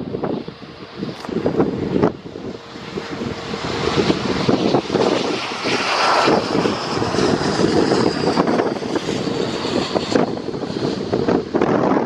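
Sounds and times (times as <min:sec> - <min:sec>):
jet engines whining and rumbling: 0:00.0 - 0:12.0.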